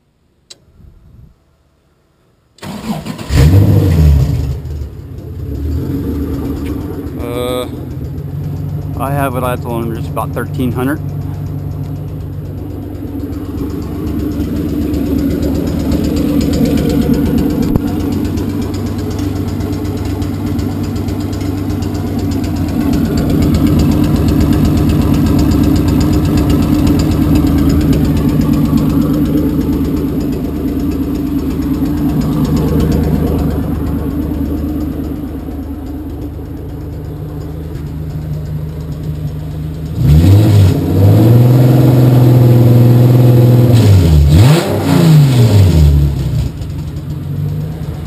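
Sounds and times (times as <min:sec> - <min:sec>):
engine idling: 0:02.6 - 0:48.0.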